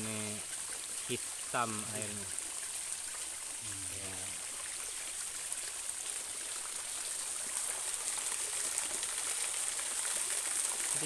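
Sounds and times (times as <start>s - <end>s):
small waterfall running: 0.0s - 11.0s.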